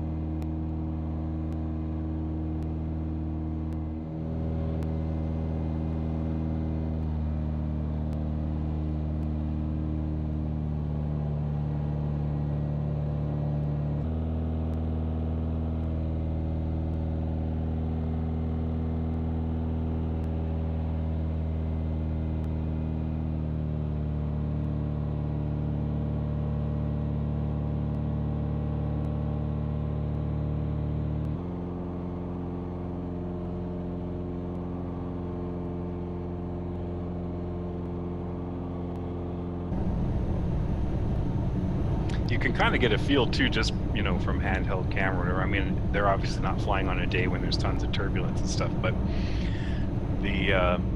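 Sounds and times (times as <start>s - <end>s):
propeller plane engine droning: 0.0s - 50.9s.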